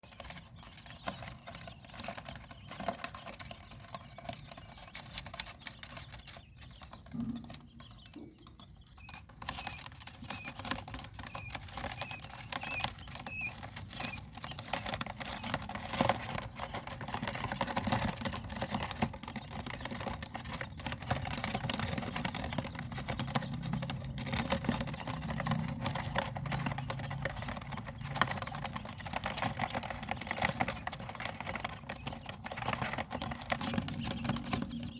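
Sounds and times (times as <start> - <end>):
quail pecking at feed: 0.0 - 34.9.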